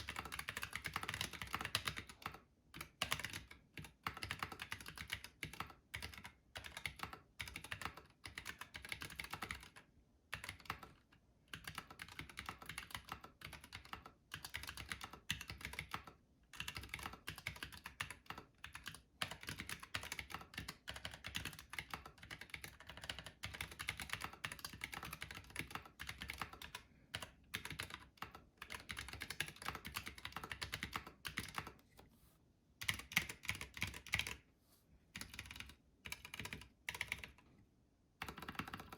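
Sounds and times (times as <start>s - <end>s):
mechanical keyboard typing: 0.0s - 31.8s, 32.8s - 34.4s, 35.2s - 37.5s, 38.2s - 38.9s.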